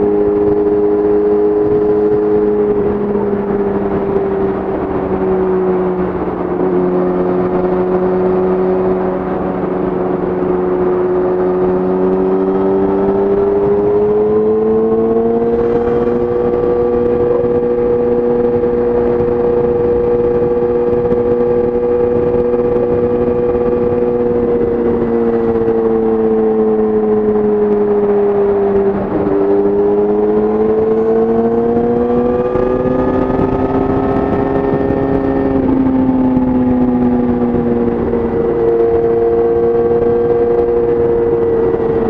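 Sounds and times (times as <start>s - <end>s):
motorcycle engine cruising: 0.0s - 42.0s.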